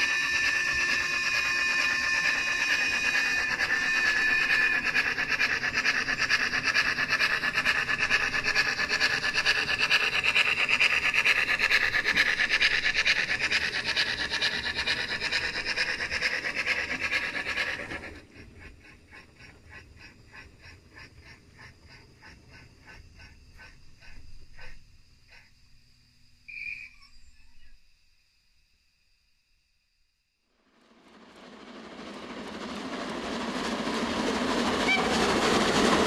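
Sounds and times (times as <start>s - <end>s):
model train motor and wheels rubbing: 0.0s - 25.4s, 30.7s - 36.0s.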